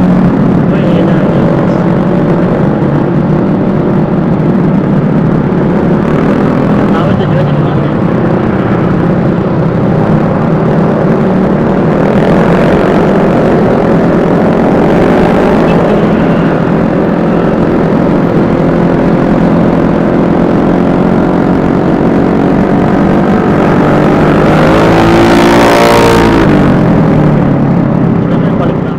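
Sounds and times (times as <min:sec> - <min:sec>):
scooter engine running: 0:00.0 - 0:25.3.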